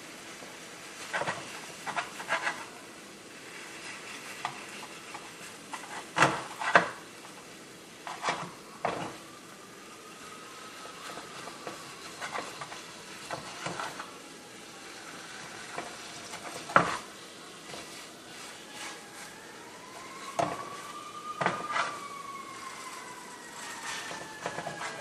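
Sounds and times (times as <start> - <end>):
food sizzling in a pan: 0.0 - 19.4, 23.5 - 25.0.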